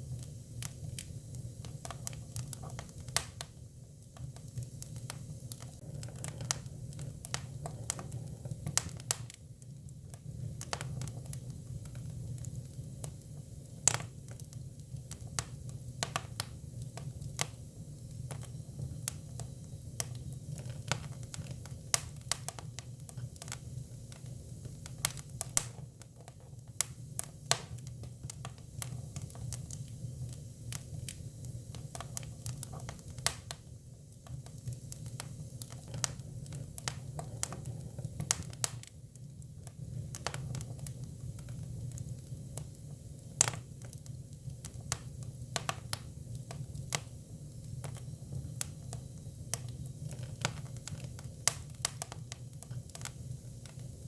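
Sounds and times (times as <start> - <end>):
firewood crackling and popping: 0.0 - 54.0
low fire rumble: 0.0 - 54.0.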